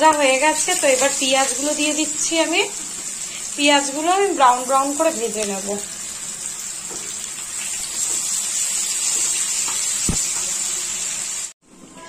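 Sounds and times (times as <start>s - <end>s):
food sizzling in hot oil: 0.0s - 11.6s.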